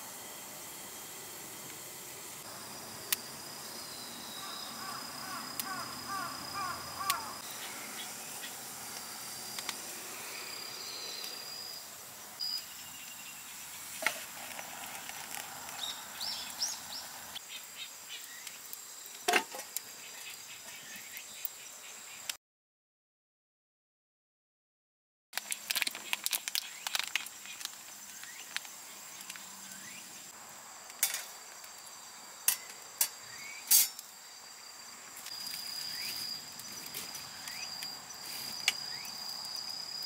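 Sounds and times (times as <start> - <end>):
insects trilling: 0.0 - 22.3, 25.4 - 40.0
insect chirps: 0.0 - 22.4, 25.4 - 40.0.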